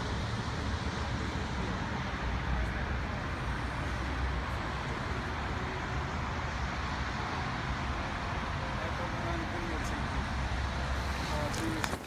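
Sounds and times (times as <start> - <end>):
traffic rumble and hiss: 0.0 - 12.0.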